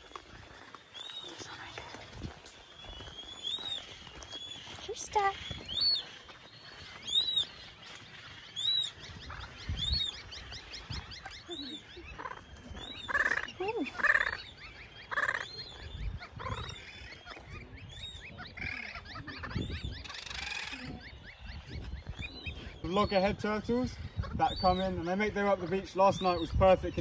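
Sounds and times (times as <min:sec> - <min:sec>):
seabirds calling: 0:00.0 - 0:27.0
harsh seabird calls: 0:02.7 - 0:27.0.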